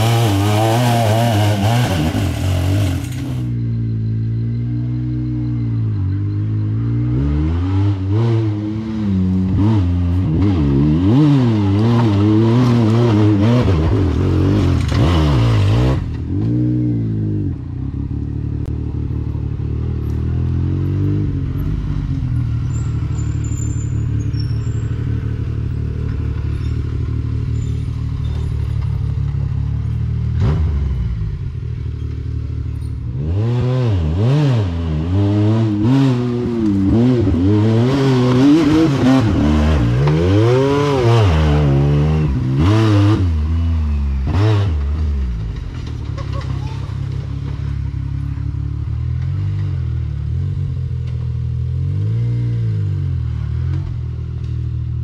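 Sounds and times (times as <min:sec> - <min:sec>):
utility vehicle engine revving: 0:00.0 - 0:55.0.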